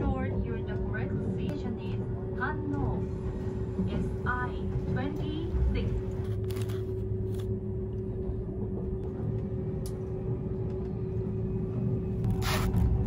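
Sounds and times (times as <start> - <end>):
train cabin rumble and hum: 0.0 - 13.0.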